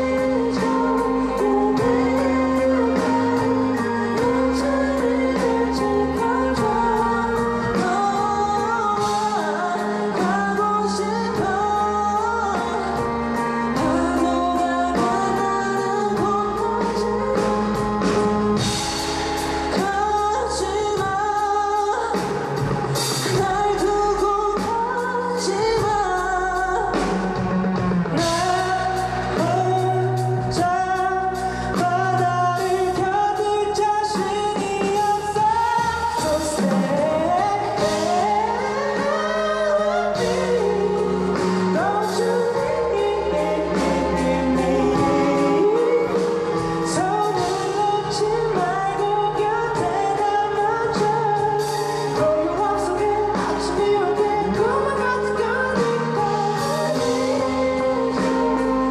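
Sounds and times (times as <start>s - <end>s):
lead singing: 0.0s - 58.9s
pop-rock band song: 0.0s - 58.9s.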